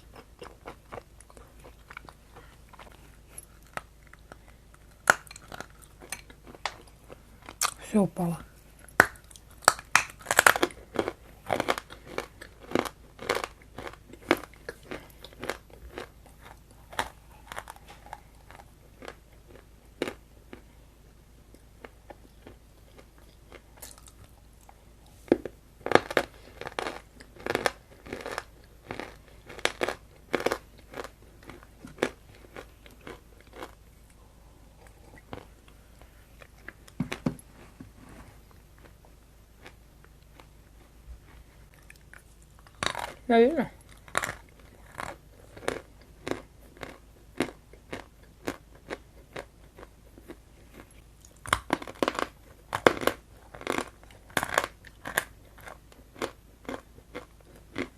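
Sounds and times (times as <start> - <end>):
person chewing crunchy food: 0.0 - 7.8, 8.8 - 20.8, 21.4 - 57.9.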